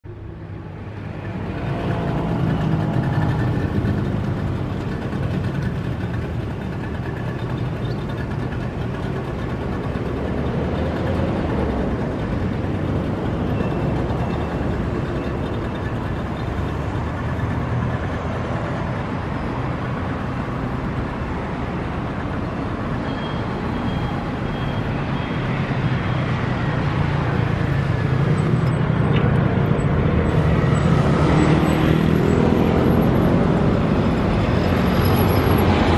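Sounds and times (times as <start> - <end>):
road traffic noise: 0.0 - 35.9.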